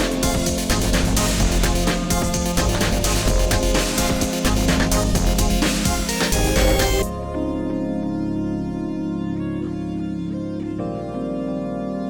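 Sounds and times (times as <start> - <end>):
keyboard chords with melody: 0.0 - 12.0.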